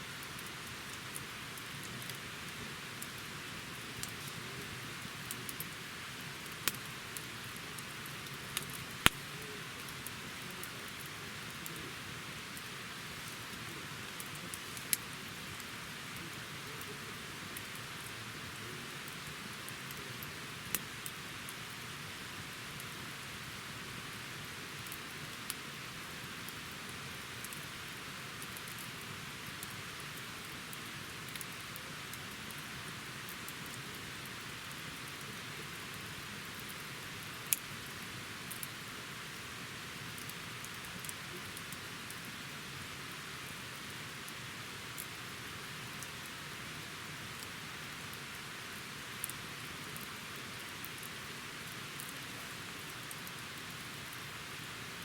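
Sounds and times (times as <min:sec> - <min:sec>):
campfire hissing: 0:00.0 - 0:55.0
fire crackles and pops: 0:00.0 - 0:55.0.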